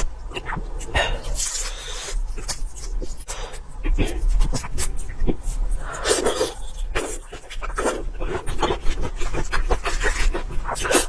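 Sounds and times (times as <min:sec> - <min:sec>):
wet chewing and mouth smacks: 0:00.0 - 0:11.0.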